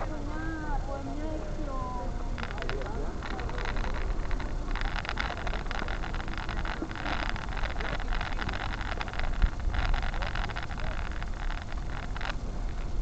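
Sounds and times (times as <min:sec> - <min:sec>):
wind rumble on microphone: 0:00.0 - 0:13.0
small crackles: 0:02.2 - 0:13.0.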